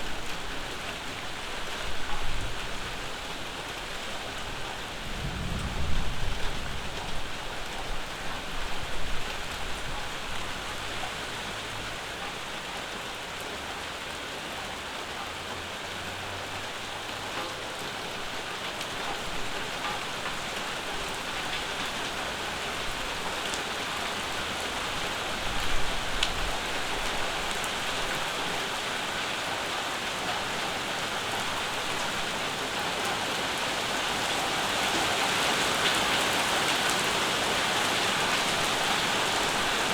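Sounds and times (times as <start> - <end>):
rain pattering on a porch: 0.0 - 39.9.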